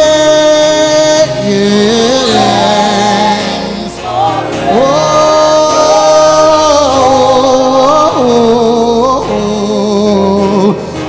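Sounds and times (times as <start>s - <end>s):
musical accompaniment: 0.0s - 11.0s
singer holding sliding notes: 0.0s - 11.0s.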